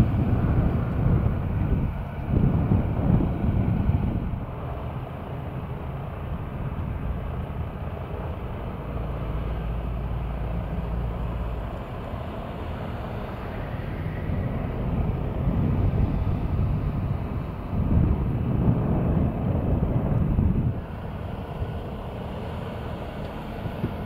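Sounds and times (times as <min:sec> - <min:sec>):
parked airliner low rumble: 0:00.0 - 0:24.0
wind buffeting microphone: 0:00.0 - 0:24.0.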